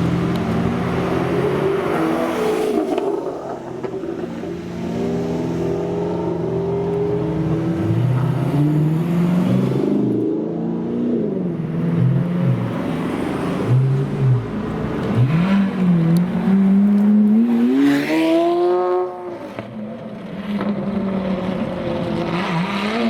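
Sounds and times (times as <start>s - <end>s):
supercar engines revving: 0.0s - 23.0s.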